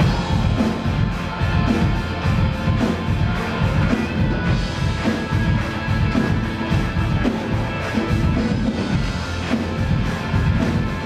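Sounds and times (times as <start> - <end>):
drums keeping a steady beat: 0.0 - 11.0
heavy bass: 0.0 - 11.0
live band music: 0.0 - 11.0.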